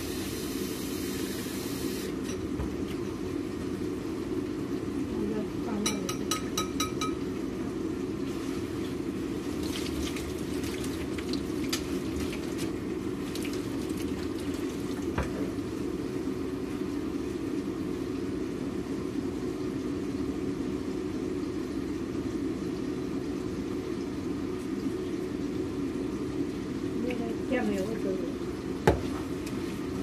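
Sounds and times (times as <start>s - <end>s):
range hood fan humming: 0.0s - 30.0s.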